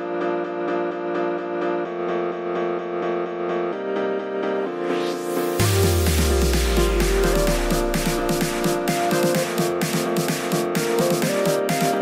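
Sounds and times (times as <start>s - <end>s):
background music repeated notes: 0.0s - 12.0s.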